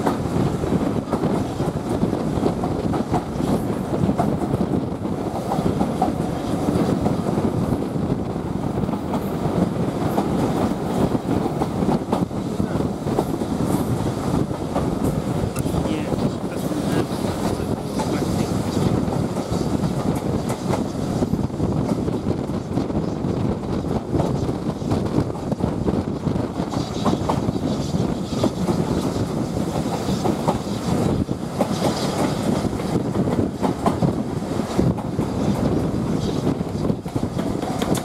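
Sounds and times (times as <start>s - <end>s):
railway carriage rumbling: 0.0s - 38.0s.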